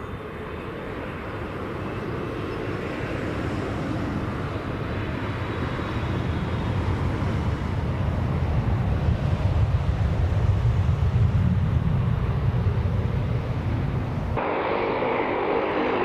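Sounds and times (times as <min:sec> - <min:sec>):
jet engines rushing noise: 0:00.0 - 0:16.0.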